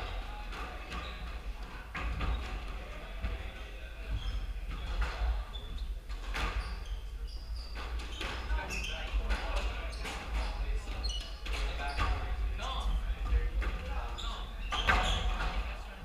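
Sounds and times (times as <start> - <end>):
sneaker squeaks on hardwood: 0.0 - 2.6, 4.0 - 12.9, 14.1 - 15.6.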